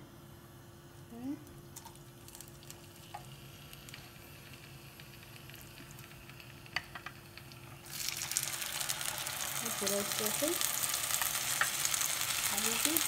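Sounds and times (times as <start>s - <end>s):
oil crackling in a pan: 1.8s - 13.0s
fish sizzling in hot oil: 2.2s - 13.0s.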